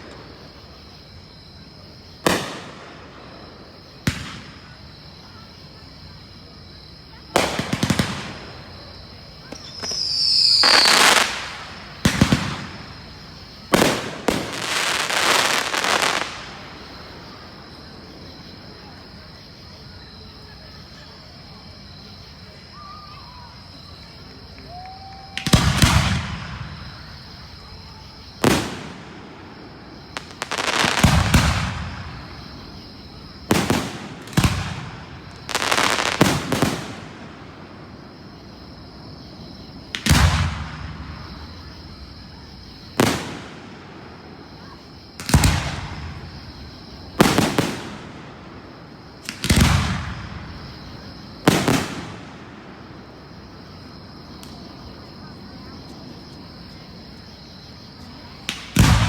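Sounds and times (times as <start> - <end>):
fireworks bursting: 0.0 - 1.2, 2.0 - 6.2, 7.1 - 19.3, 22.8 - 56.8, 58.0 - 59.0.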